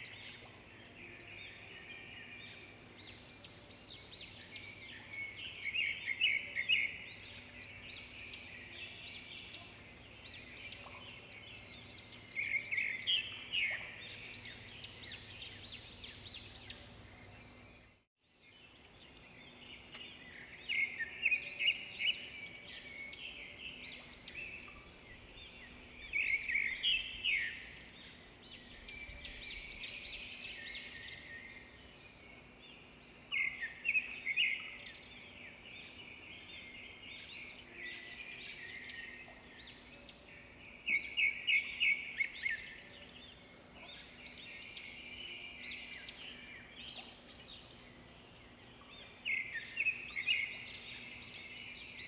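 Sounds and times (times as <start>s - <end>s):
birds chirping and trilling: 0.0s - 52.0s.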